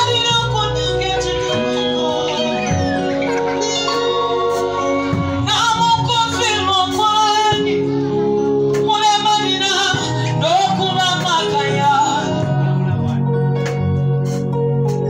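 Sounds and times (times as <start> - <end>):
woman singing gospel: 0.0 - 13.0
held accompaniment chords: 0.0 - 15.0.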